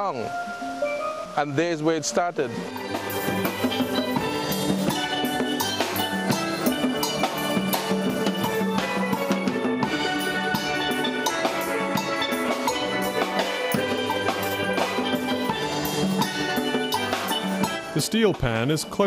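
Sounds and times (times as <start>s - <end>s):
steel band playing: 0.0s - 19.0s.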